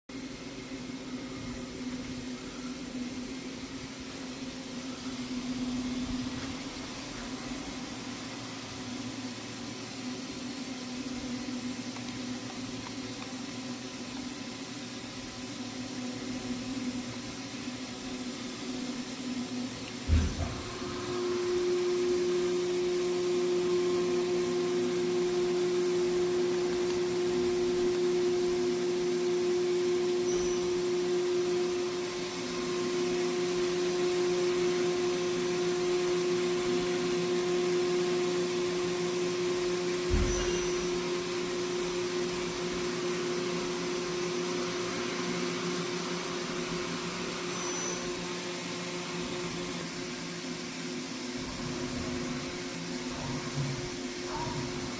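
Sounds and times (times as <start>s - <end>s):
machine hum: 0.1s - 54.9s.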